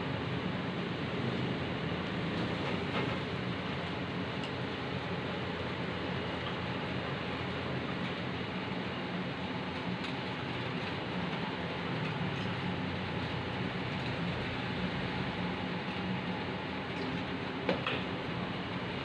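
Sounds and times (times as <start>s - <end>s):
gas burner roaring: 0.0s - 19.0s.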